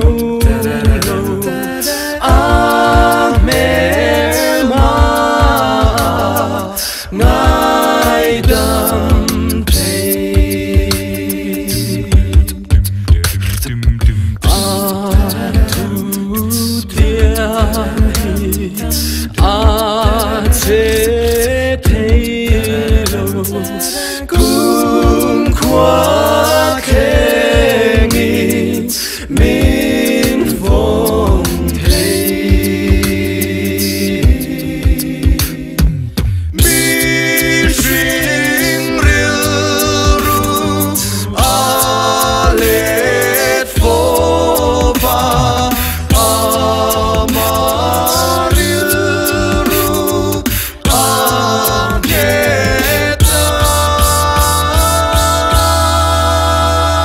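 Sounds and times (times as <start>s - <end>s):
male vocal group singing: 0.0s - 57.0s
percussive beat: 0.0s - 57.0s.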